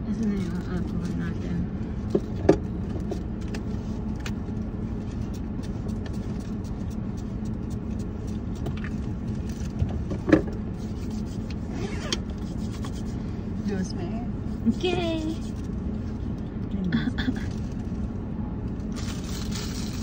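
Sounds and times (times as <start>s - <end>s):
low hum inside a car: 0.0s - 20.0s.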